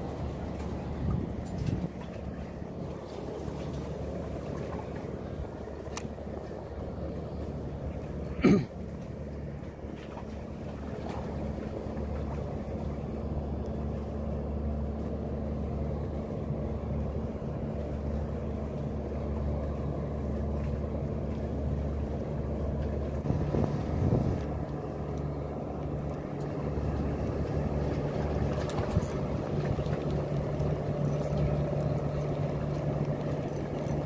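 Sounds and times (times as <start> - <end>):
ship engine drone: 0.0 - 34.0.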